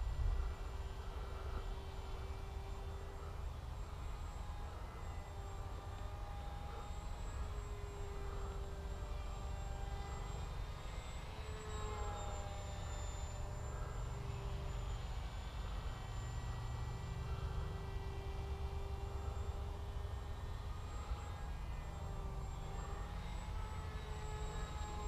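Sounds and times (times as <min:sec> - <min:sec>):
rc plane motor whining: 0:00.0 - 0:25.0.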